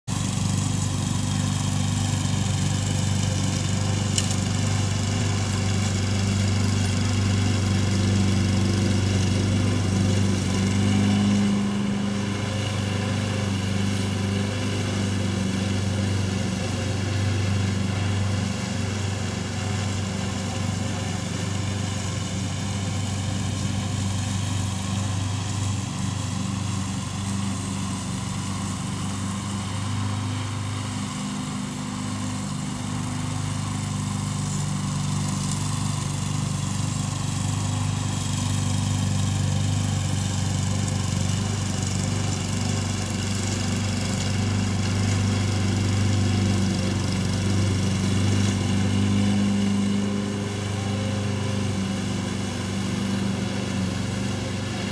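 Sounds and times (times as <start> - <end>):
lawn mower running: 0.0 - 54.9.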